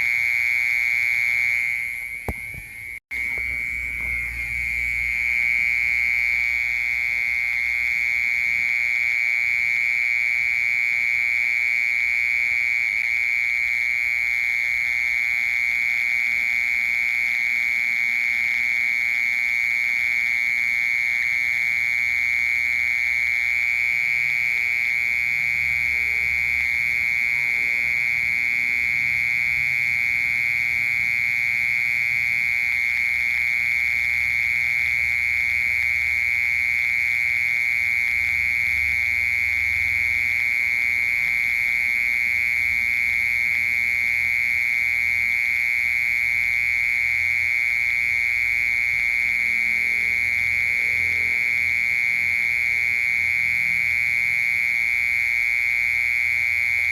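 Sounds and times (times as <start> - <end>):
cricket trilling: 0.0 - 56.9.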